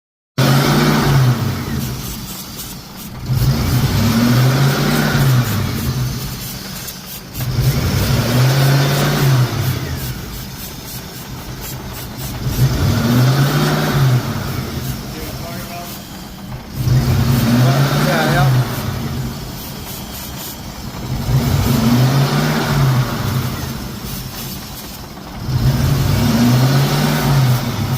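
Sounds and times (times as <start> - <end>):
car engine revving: 0.4 - 27.9.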